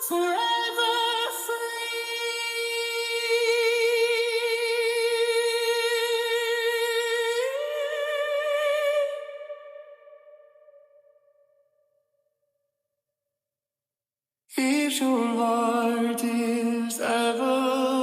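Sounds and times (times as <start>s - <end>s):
person singing with vibrato: 0.0s - 11.0s, 14.6s - 18.0s.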